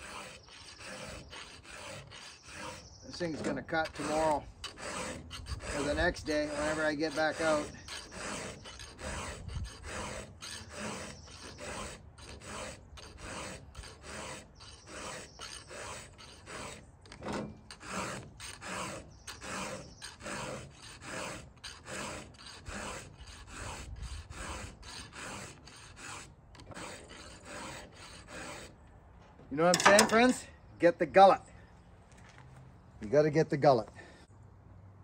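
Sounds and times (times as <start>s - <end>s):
file rasping on chainsaw chain: 0.0s - 28.8s, 29.7s - 30.4s.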